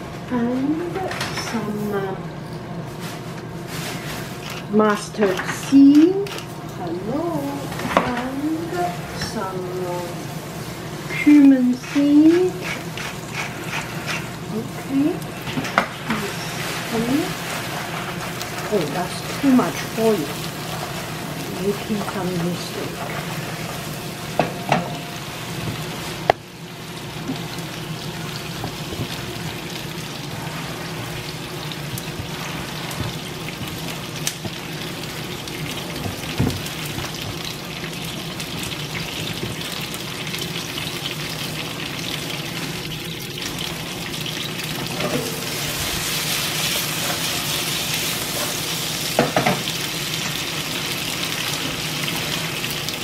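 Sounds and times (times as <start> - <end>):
peppers sizzling in oil: 0.4 - 53.0.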